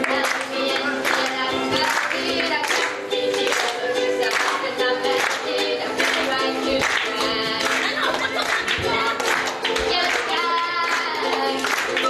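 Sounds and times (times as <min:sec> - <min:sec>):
ukulele strumming: 0:00.0 - 0:12.0
woman singing: 0:00.0 - 0:12.0.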